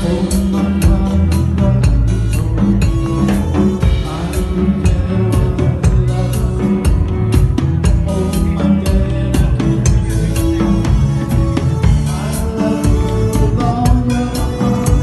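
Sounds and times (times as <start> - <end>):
drum kit beat: 0.0 - 15.0
electric bass: 0.0 - 15.0
electric guitar: 0.0 - 15.0
keyboard: 0.0 - 15.0.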